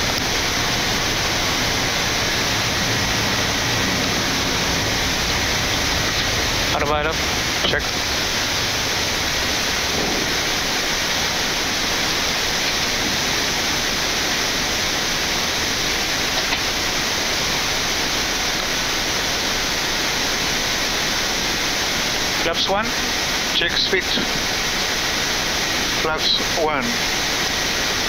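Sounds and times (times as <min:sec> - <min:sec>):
steady rushing noise in cockpit: 0:00.0 - 0:28.0.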